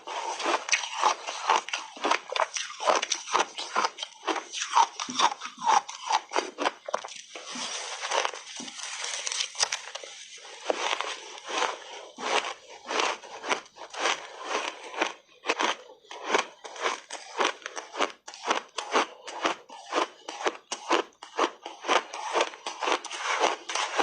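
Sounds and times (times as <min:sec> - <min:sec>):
ice being chewed: 0:00.0 - 0:24.0.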